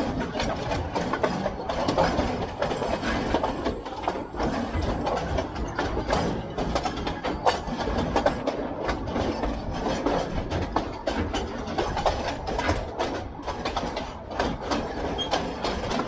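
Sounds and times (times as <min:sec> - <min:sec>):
carriage and track rattling: 0:00.0 - 0:16.0.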